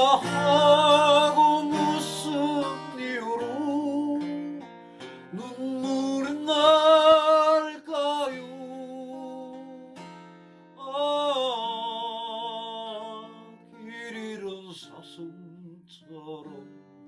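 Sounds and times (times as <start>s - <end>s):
person singing a ballad: 0.0s - 10.1s, 10.8s - 16.8s
acoustic guitar: 0.0s - 17.0s.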